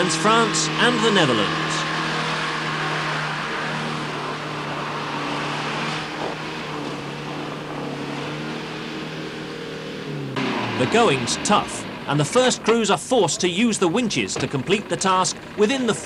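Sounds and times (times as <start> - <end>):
car engine running under load: 0.0 - 16.0.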